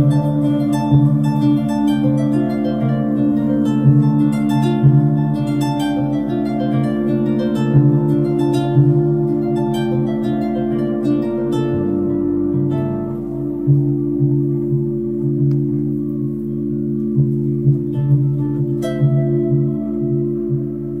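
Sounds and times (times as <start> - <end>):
plucked kora notes: 0.0 - 21.0
singing bowls humming: 0.0 - 21.0.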